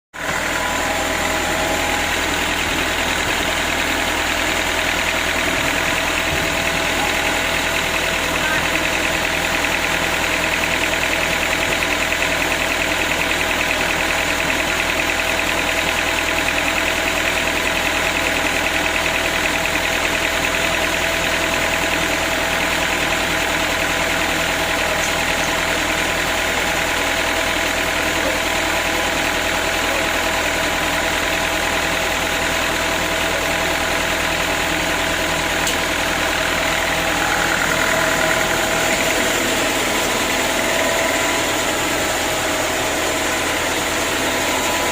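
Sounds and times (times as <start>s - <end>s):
sawmill machinery humming: 0.2s - 44.9s.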